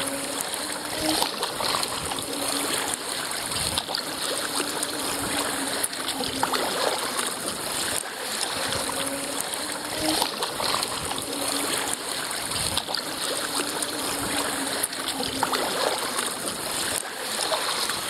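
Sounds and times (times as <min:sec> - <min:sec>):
paddle splashing water: 0:00.0 - 0:18.0.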